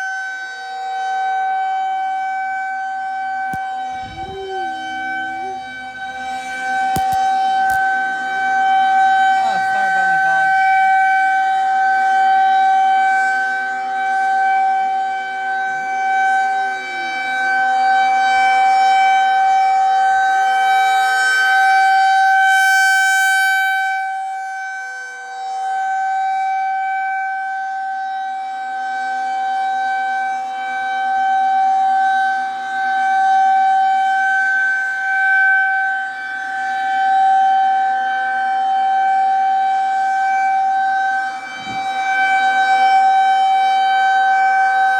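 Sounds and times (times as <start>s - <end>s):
tornado warning siren: 0.0s - 44.9s.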